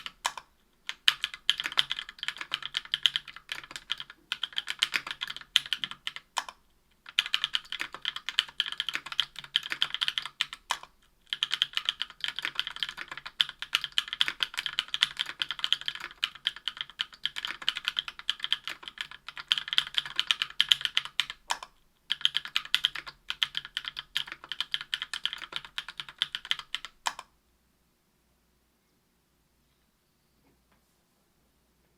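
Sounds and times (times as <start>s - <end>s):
keyboard typing: 0.0s - 27.3s.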